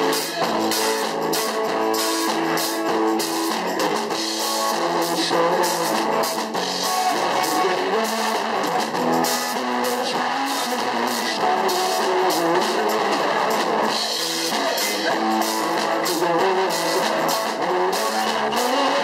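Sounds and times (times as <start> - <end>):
live rock band playing: 0.0 - 19.0
strummed guitar: 0.0 - 19.0.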